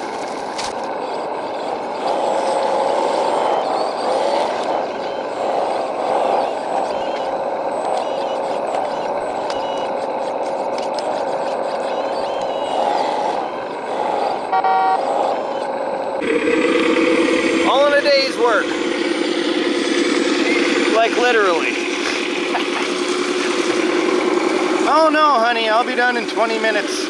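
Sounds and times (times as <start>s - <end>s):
hydraulic pump whine: 0.0s - 27.0s.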